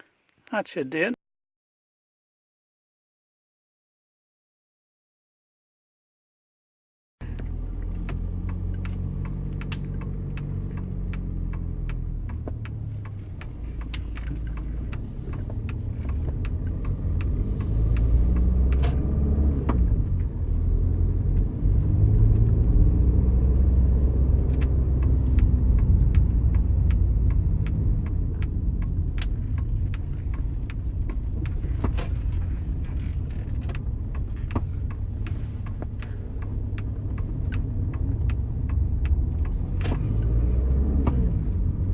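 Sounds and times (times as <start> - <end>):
car engine and road rumble: 7.2 - 41.9.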